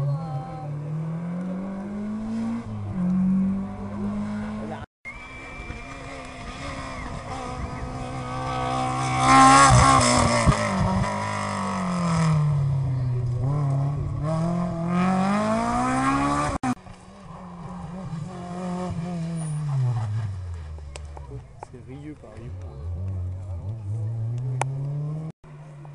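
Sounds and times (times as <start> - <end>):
rally car engine revving: 0.0 - 4.9, 5.6 - 25.9.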